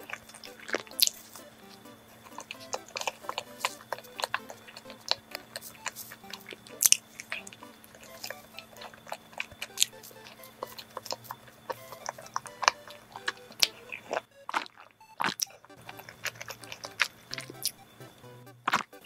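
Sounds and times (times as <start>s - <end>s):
person chewing soft bread: 0.0s - 17.8s, 18.6s - 19.0s
quiet background music: 0.0s - 19.0s.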